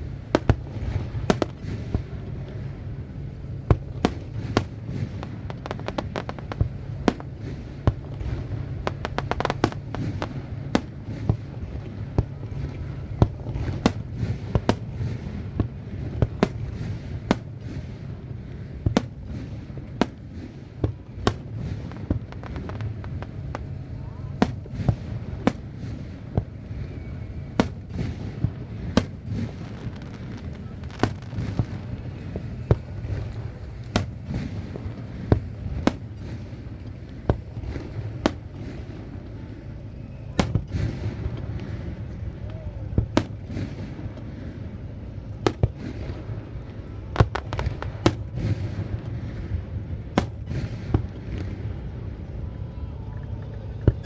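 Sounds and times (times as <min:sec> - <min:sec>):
fireworks bangs: 0:00.0 - 0:52.4
low background noise: 0:00.0 - 0:54.0.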